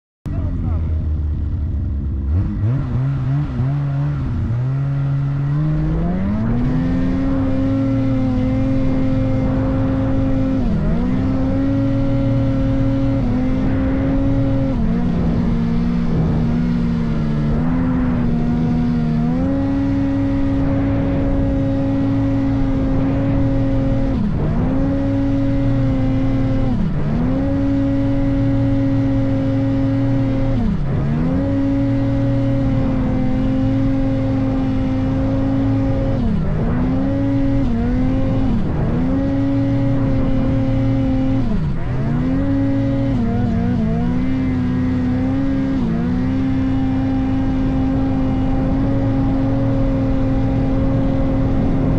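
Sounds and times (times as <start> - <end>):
snowmobile engine at high revs: 0.3 - 51.9.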